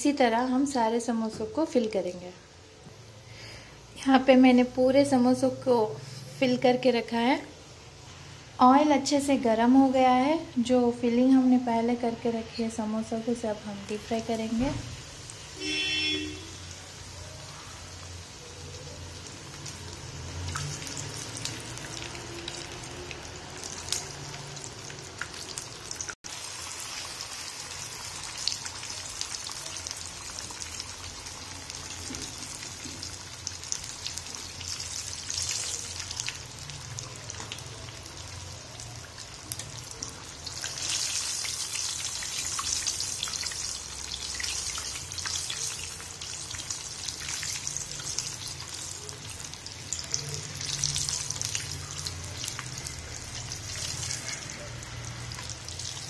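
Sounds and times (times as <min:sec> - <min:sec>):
deep-frying sizzle with crackles: 0:00.0 - 0:56.0.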